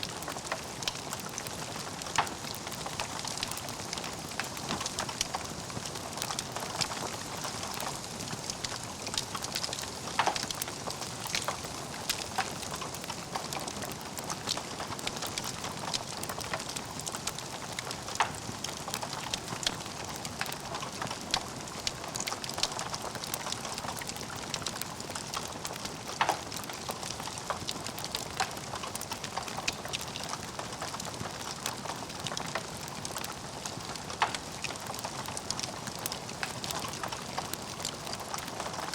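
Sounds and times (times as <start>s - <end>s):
log fire crackling: 0.0s - 38.9s.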